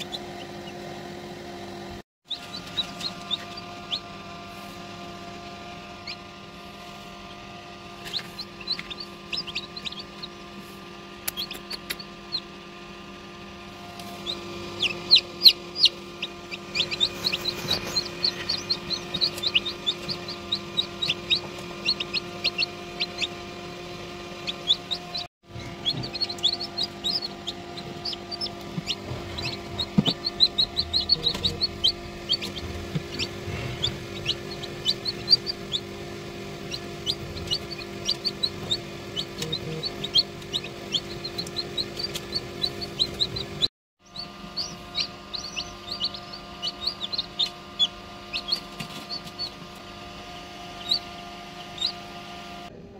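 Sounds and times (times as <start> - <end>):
chicks peeping: 0.0 - 1.0, 2.3 - 4.9, 5.9 - 6.4, 8.0 - 12.6, 13.9 - 49.8, 50.7 - 52.2
steady hum: 0.0 - 52.9.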